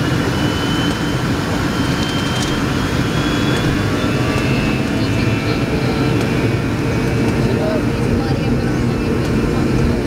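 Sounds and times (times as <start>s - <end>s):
jet engines rumbling with whine: 0.0s - 10.0s.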